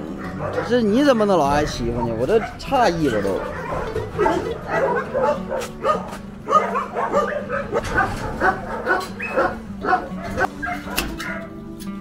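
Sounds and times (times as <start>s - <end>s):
dogs barking and yipping: 0.0s - 11.7s.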